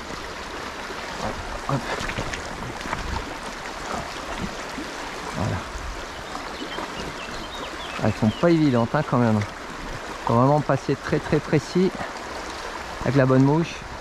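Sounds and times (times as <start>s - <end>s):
river water running over stones: 0.0s - 14.0s.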